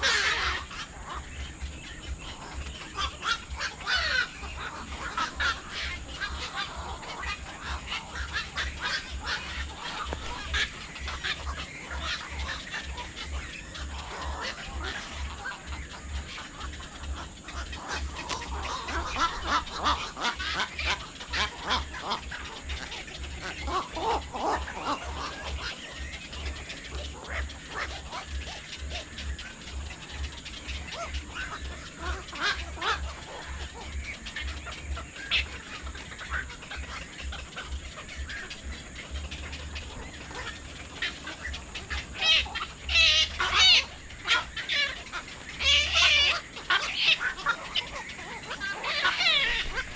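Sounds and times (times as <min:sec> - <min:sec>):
birds calling: 0:00.0 - 0:49.9.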